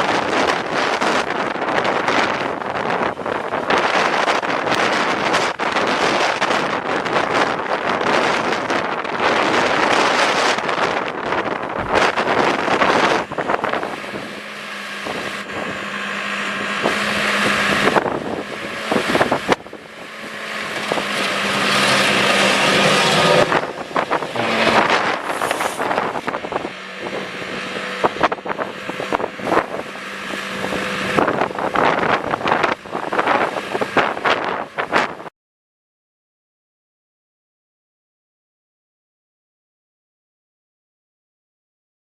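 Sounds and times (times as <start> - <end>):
diesel engine running: 0.0 - 35.3
wind buffeting microphone: 0.0 - 35.3.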